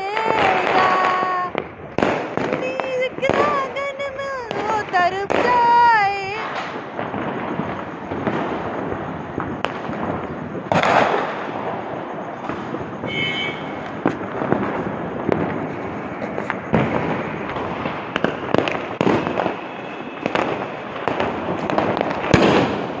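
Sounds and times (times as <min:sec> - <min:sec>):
firecrackers crackling: 0:00.0 - 0:23.0
fireworks bangs: 0:00.0 - 0:23.0.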